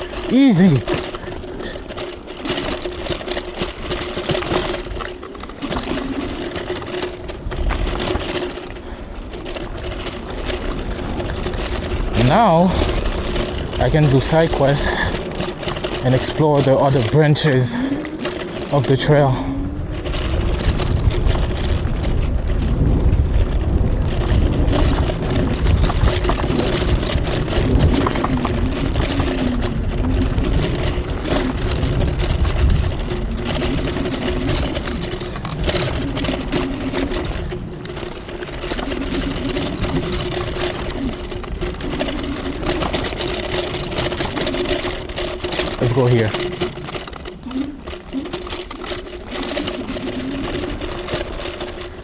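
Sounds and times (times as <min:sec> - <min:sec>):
tyres rumbling on dirt: 0:00.0 - 0:52.0.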